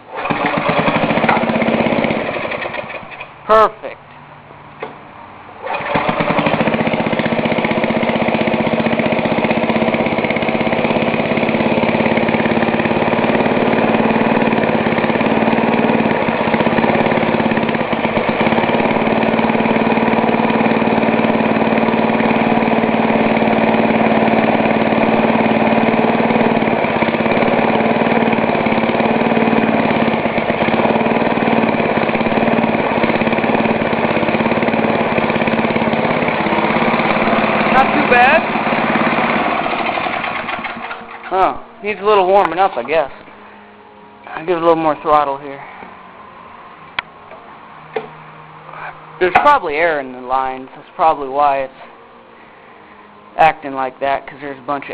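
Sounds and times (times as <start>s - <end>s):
snowblower engine starting and running: 0.0s - 3.8s, 4.4s - 54.9s.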